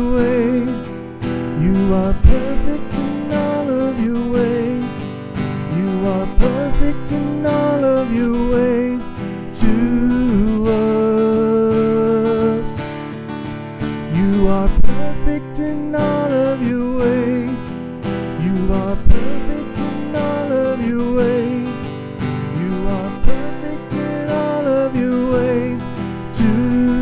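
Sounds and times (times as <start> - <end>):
man singing worship song: 0.0 - 5.0, 5.7 - 12.8, 14.1 - 27.0
strummed acoustic guitar: 0.0 - 27.0.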